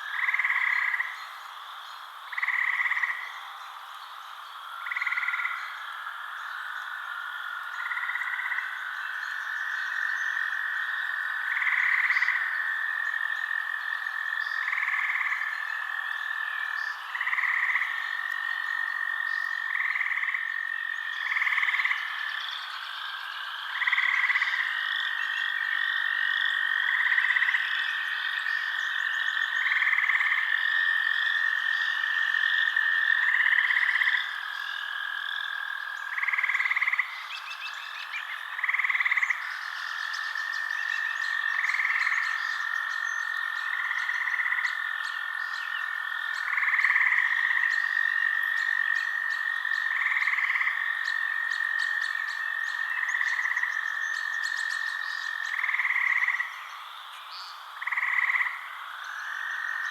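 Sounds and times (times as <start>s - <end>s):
frog croaking: 0.0s - 59.9s.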